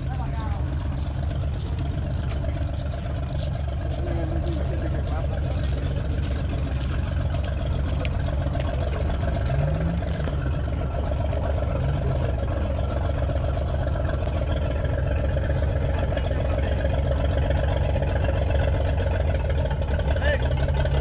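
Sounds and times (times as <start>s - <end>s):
armoured car engine rumbling: 0.0s - 21.0s.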